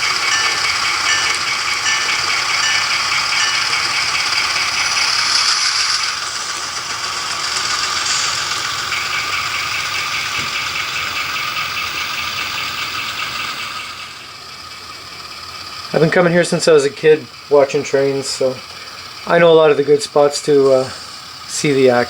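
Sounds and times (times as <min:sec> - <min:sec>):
model trains rattling and whirring: 0:00.0 - 0:22.0.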